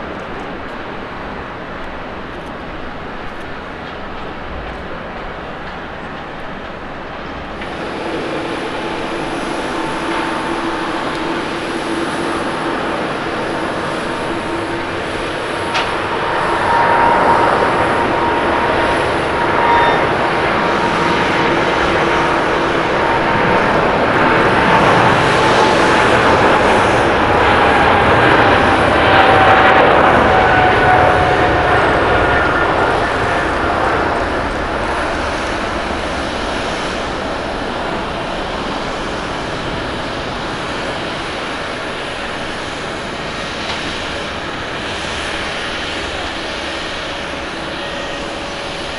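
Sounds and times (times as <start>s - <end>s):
jet engine roar: 0.0s - 48.9s
jet fan whine falling in pitch: 7.5s - 48.9s.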